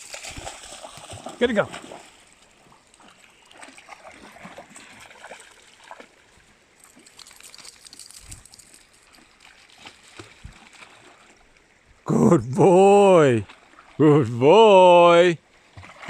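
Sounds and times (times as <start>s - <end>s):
dogs splashing in shallow water: 0.0s - 12.0s, 12.8s - 14.0s, 15.4s - 16.0s.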